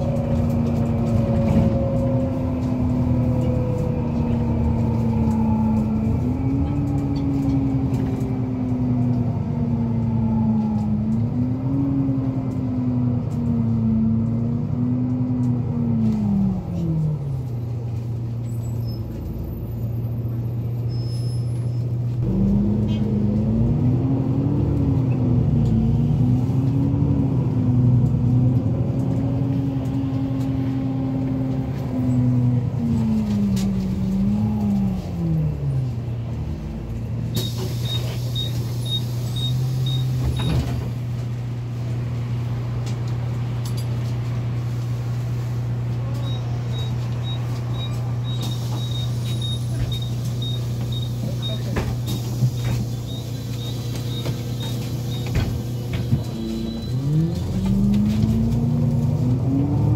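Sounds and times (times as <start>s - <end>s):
bus diesel engine hum: 0.0s - 59.9s.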